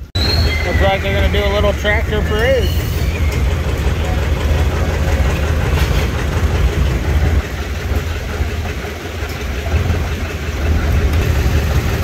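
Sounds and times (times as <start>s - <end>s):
tractor engines idling: 0.0s - 12.0s.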